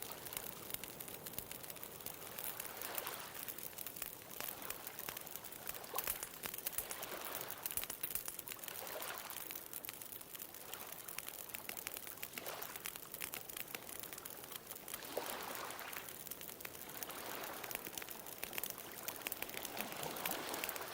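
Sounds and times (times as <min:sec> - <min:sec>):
wood bonfire crackling: 0:00.0 - 0:20.9.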